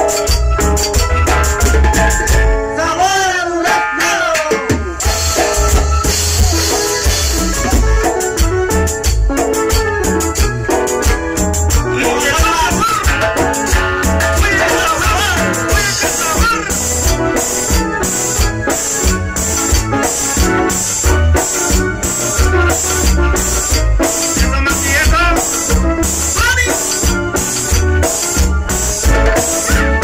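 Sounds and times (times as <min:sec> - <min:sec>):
drum kit: 0:00.0 - 0:02.8, 0:03.7 - 0:30.0
heavy bass: 0:00.0 - 0:03.4, 0:04.5 - 0:30.0
band playing dance music: 0:00.0 - 0:30.0.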